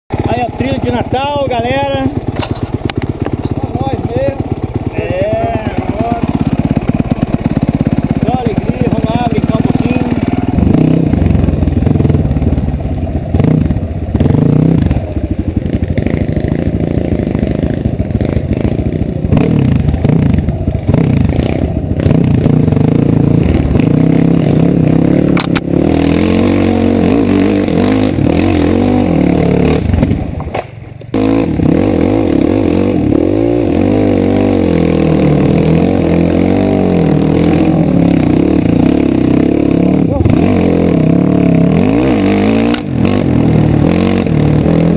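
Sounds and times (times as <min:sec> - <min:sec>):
dirt bike engine revving: 0:00.1 - 0:44.9.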